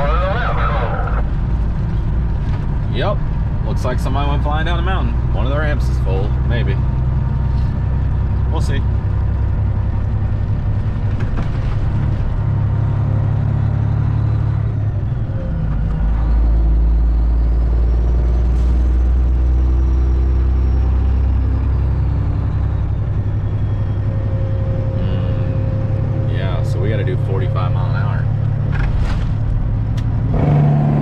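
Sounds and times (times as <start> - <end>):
truck diesel exhaust drone: 4.5 - 11.2, 11.9 - 31.0.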